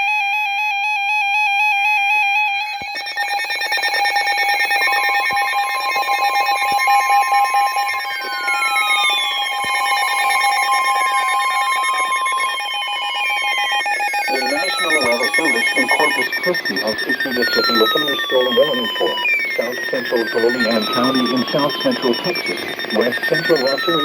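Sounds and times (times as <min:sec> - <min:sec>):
steady high tone: 0:02.2 - 0:24.0
warbling alert tone: 0:02.9 - 0:24.0.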